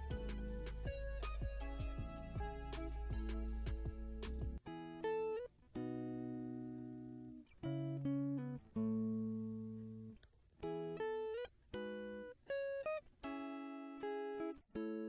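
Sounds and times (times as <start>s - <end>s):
plucked guitar notes and chords: 0.0s - 15.0s.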